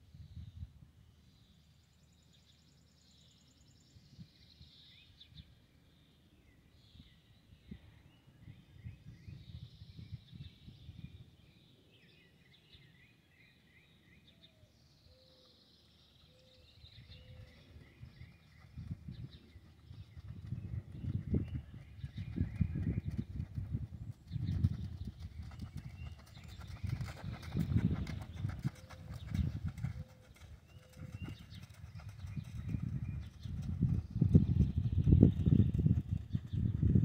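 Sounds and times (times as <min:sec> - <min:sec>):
songbirds singing and chirping: 0:00.0 - 0:37.0.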